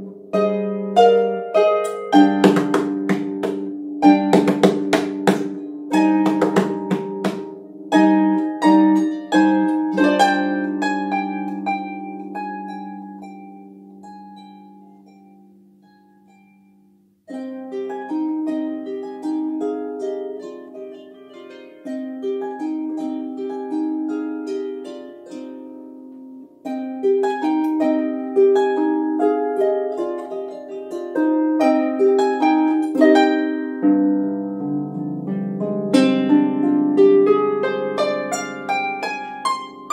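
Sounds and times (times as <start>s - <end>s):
harp plucked notes: 0.0s - 39.9s.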